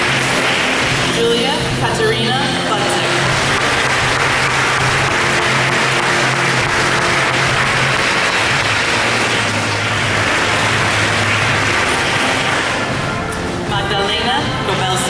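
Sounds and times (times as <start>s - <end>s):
large crowd applauding: 0.0s - 13.7s
music playing: 0.0s - 15.0s.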